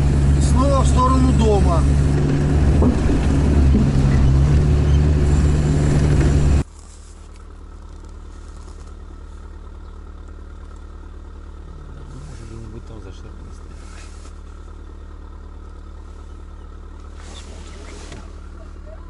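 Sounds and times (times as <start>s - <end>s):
engine hum from outside: 0.0s - 19.0s
vehicle engine drone inside cab: 0.0s - 19.0s.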